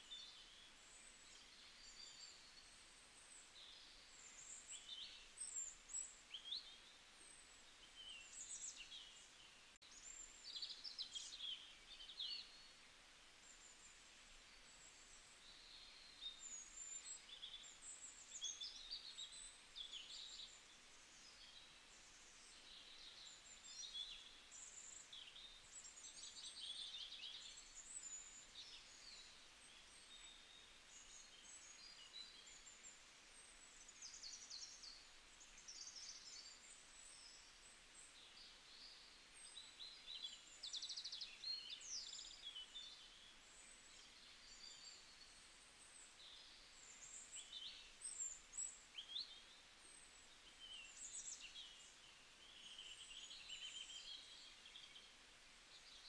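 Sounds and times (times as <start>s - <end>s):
faint steady hiss: 0.0s - 56.0s
songbirds chirping and trilling: 0.0s - 56.0s.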